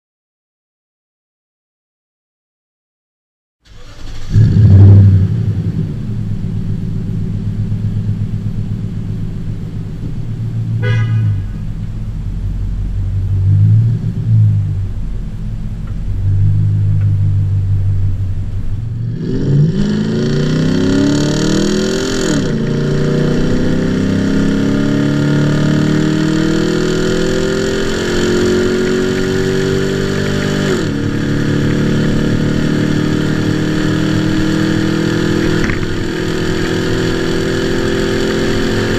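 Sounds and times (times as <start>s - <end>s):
engine exhaust rumbling and revving: 3.6s - 38.9s.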